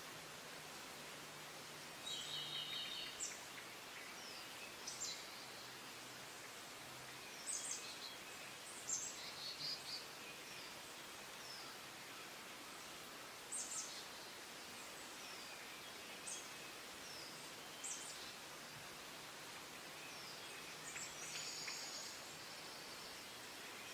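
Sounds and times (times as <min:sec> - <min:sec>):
faint outdoor hiss: 0:00.0 - 0:23.9
small birds chirping: 0:01.8 - 0:23.9.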